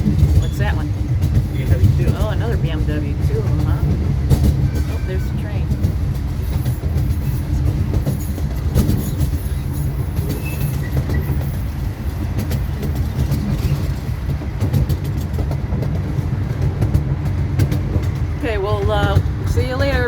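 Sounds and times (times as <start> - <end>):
train rumbling on rails: 0.0 - 20.0
wheels clicking over rail joints: 0.0 - 20.0.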